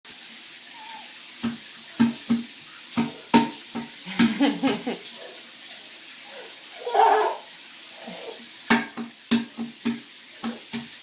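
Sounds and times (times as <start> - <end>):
shower running: 0.1 - 11.0.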